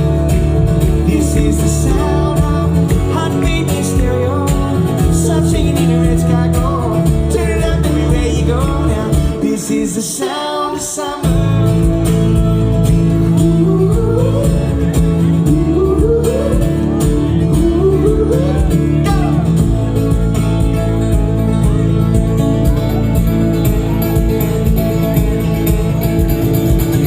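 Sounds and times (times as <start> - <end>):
pop-rock band playing: 0.0 - 27.0.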